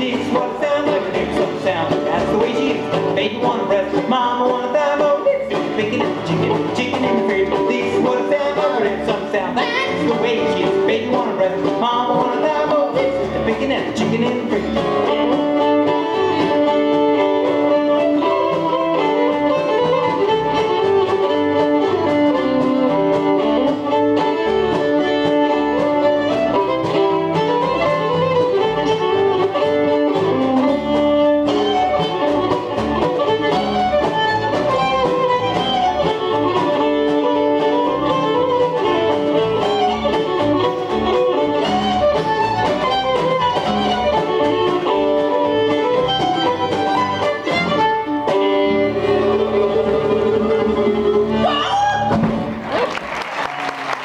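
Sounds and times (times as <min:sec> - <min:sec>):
fiddle melody: 0:00.0 - 0:52.8
acoustic guitar: 0:00.0 - 0:53.1.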